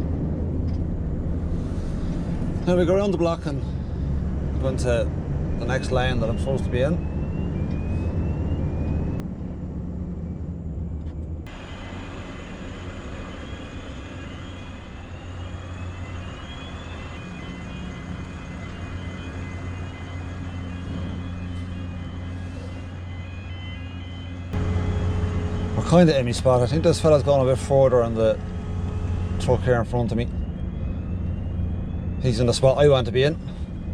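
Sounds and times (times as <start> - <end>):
lorry engine running: 0.0 - 33.9.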